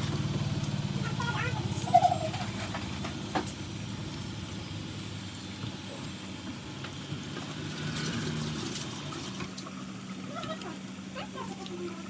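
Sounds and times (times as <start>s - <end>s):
low mechanical hum with hiss: 0.0s - 12.0s.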